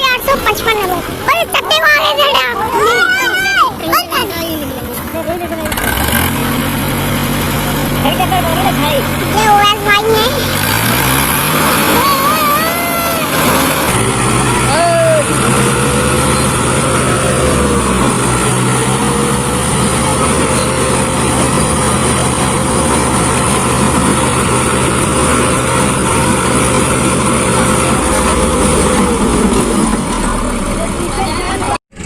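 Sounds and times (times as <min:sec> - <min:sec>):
tractor engine running: 0:03.5 - 0:32.0.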